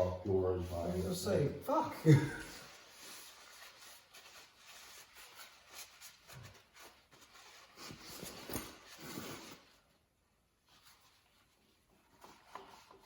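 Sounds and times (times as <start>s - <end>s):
faint rubbing and scratching: 0.0s - 13.0s.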